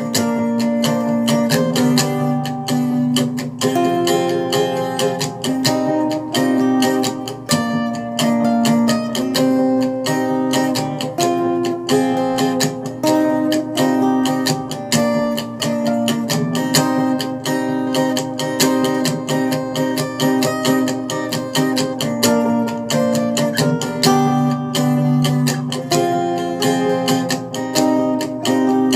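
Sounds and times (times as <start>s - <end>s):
acoustic guitar strumming: 0.0s - 28.9s.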